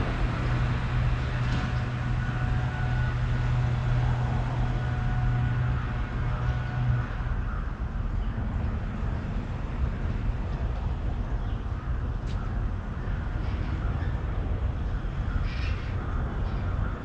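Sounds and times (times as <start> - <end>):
engine hum: 0.0 - 17.0
low outdoor rumble: 0.0 - 17.0.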